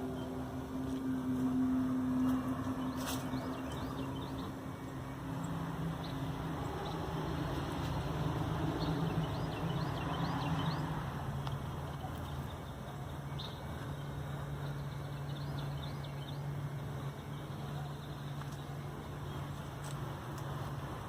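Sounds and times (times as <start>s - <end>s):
low hum in the air: 0.0s - 21.0s.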